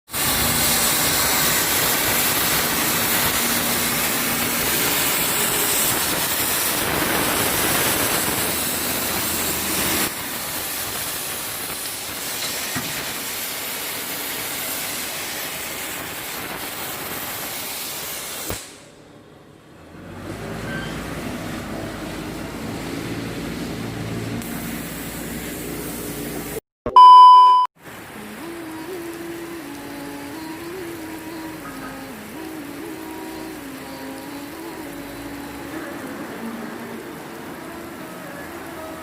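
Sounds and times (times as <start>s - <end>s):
gas cutting torch hissing: 0.1s - 18.9s, 24.4s - 26.6s, 27.9s - 39.0s.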